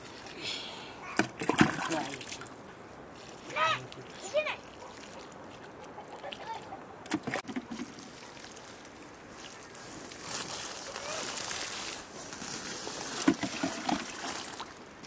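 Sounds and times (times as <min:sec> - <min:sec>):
water splashing on soil: 0:01.1 - 0:15.0.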